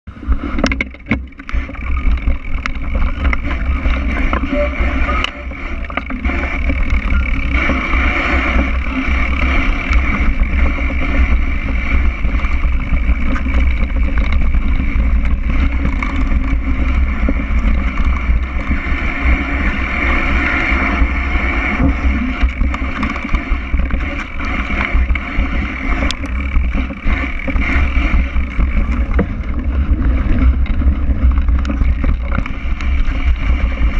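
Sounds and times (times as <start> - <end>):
bike tyres rattling and rolling: 0.1 - 33.9
wind rumble on microphone: 0.1 - 33.9.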